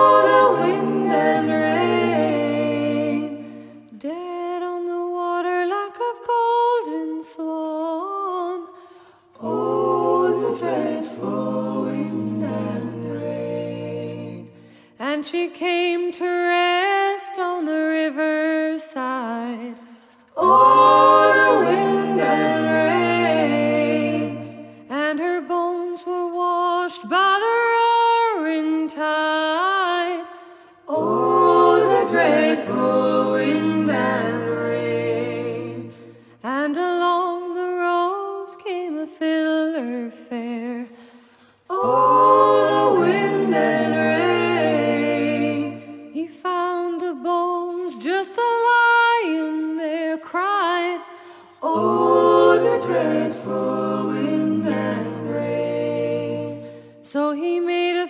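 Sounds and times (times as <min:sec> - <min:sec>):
voices singing in harmony: 0:00.0 - 0:58.0.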